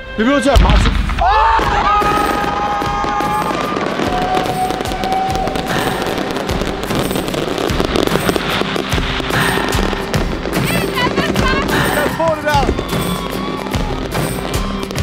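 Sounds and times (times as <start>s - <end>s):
fireworks bangs and crackling: 0.5s - 15.0s.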